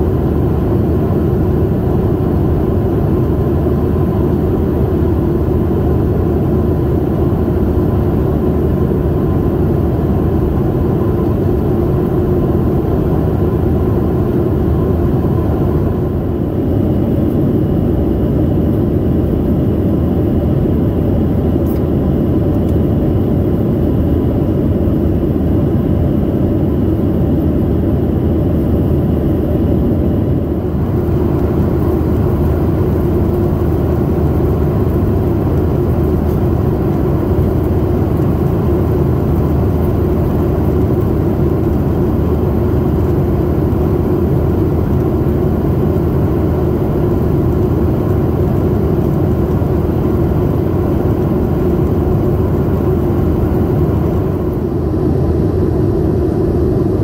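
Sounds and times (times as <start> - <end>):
airplane engine hum: 0.0 - 57.0.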